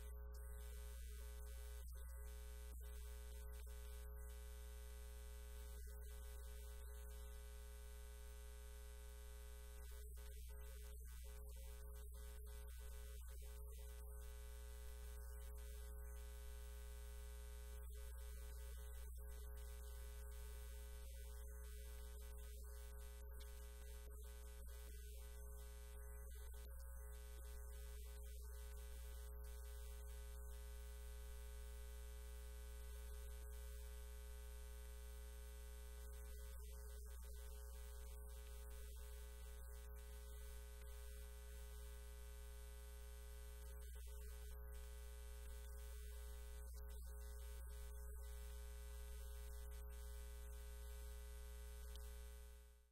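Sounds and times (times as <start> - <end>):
faint steady tones: 0.0 - 52.9
low electrical hum: 0.0 - 52.9.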